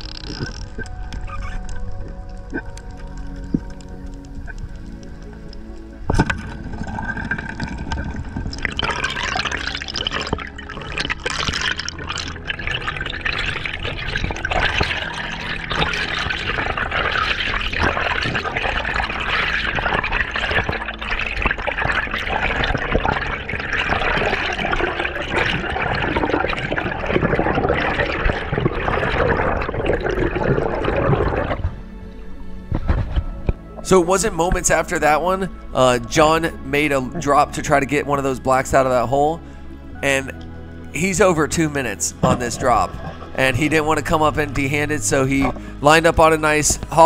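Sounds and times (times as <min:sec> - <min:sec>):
underwater bubbling: 0:00.0 - 0:47.0.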